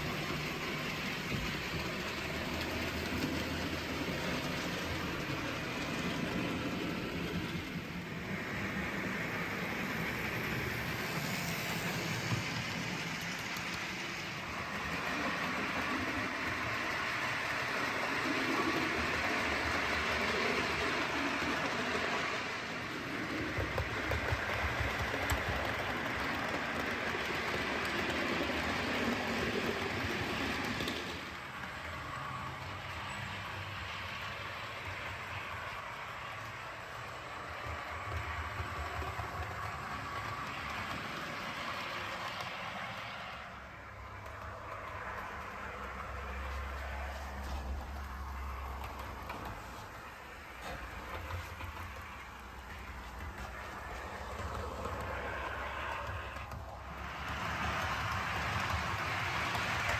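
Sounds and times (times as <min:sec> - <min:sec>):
model train running: 0:00.0 - 0:59.9.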